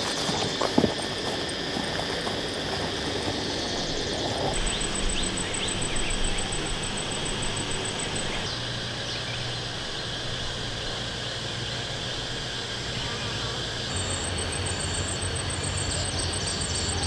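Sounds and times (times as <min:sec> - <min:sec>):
insect pulsing trill: 0:00.0 - 0:17.0
outdoor background noise: 0:00.0 - 0:17.0.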